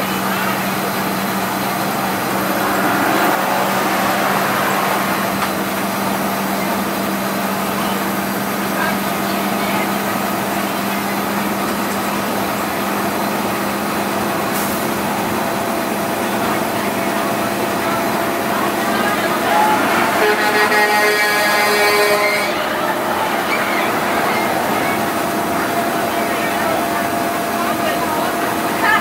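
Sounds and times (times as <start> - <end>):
diesel bus engine drone: 0.0 - 29.0
road noise: 0.0 - 29.0.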